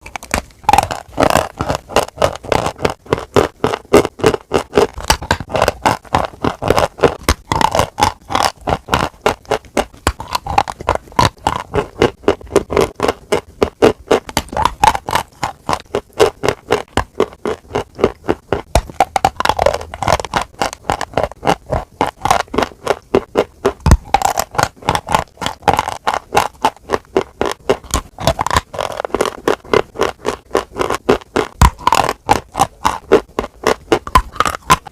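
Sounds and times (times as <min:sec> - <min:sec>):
chewing crunchy food: 0:00.0 - 0:34.9.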